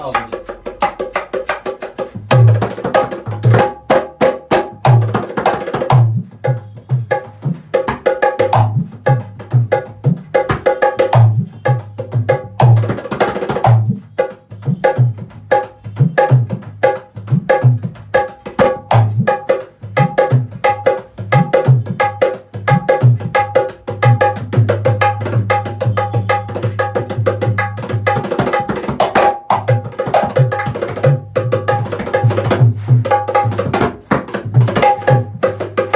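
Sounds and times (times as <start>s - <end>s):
hand drum played in fast rhythm: 0.0s - 35.9s.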